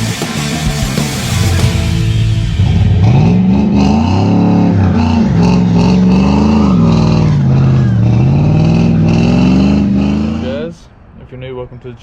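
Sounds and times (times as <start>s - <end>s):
truck engine revving: 0.0s - 10.8s.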